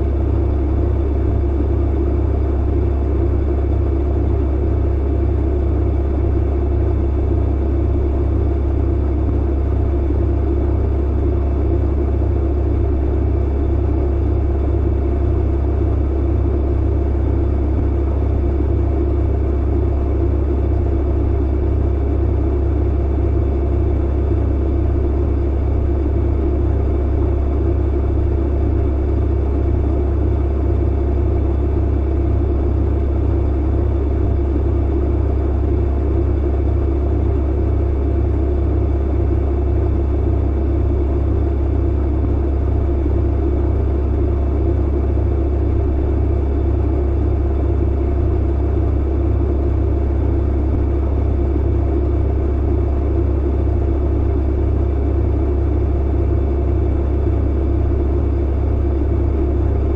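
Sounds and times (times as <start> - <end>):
clothes dryer humming and rumbling: 0.0 - 59.9.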